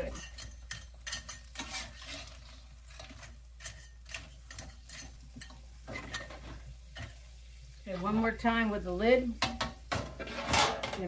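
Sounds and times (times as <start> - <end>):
metal utensil scraping in a wok: 0.0 - 8.4, 9.4 - 11.0.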